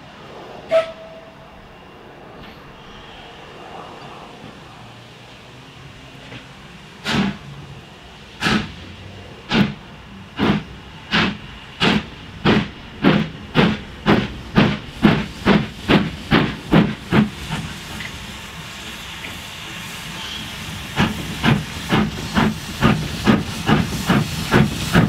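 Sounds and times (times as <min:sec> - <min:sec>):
steam hiss: 0:02.4 - 0:25.0
steam locomotive chuffing: 0:02.6 - 0:25.0.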